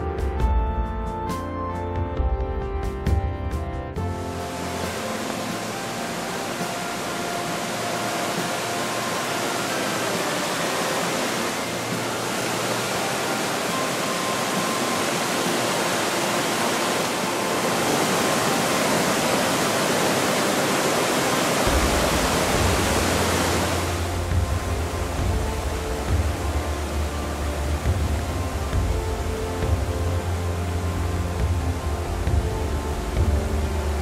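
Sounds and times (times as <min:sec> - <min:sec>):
water rushing over rocks: 0:04.2 - 0:34.0.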